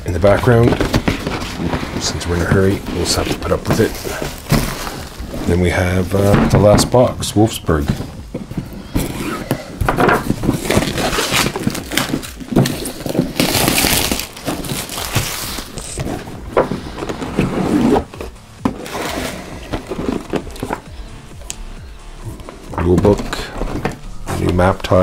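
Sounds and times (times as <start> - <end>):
plastic wrap crinkling: 0.0 - 7.8, 8.4 - 25.0.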